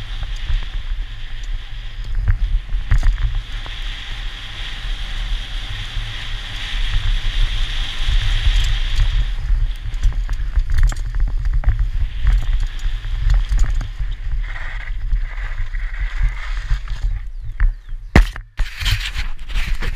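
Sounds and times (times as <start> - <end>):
bike rattling over bumps: 0.0 - 19.9
tyre noise on dirt: 0.0 - 19.9
wind buffeting microphone: 0.0 - 19.9.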